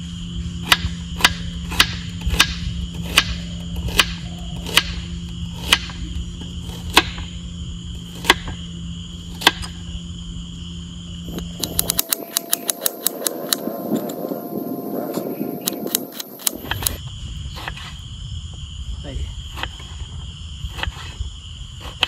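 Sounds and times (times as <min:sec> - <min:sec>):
crickets droning: 0:00.0 - 0:22.0.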